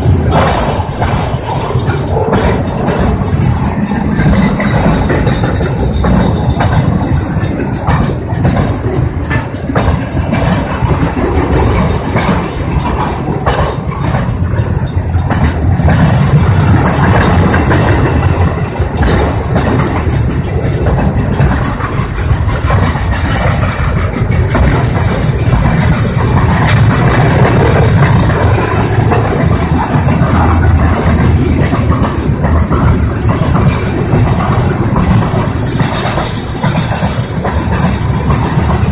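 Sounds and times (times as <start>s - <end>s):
freight train rolling on rails: 0.0s - 38.9s.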